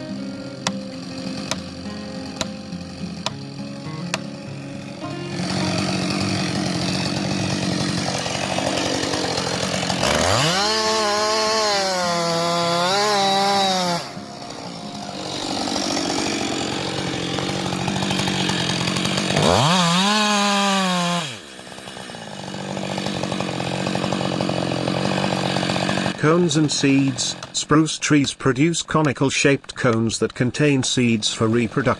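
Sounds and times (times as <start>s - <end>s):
chainsaw engine revving: 0.0s - 27.8s, 31.4s - 31.9s
chainsaw engine idling: 0.0s - 28.3s, 30.9s - 31.9s.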